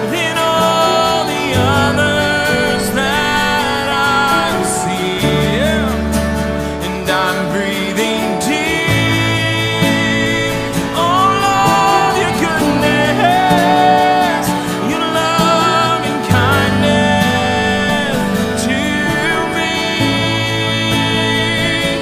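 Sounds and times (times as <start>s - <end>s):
acoustic guitar: 0.0s - 22.0s
low held notes: 0.0s - 22.0s
man singing: 0.0s - 22.0s.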